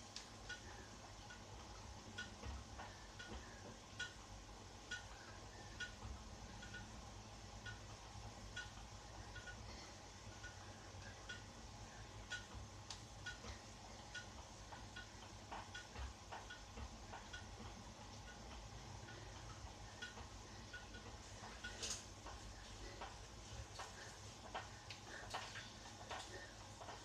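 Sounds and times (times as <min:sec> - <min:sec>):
low steady hum: 0:00.0 - 0:27.0
spin bike ticking: 0:00.0 - 0:27.0.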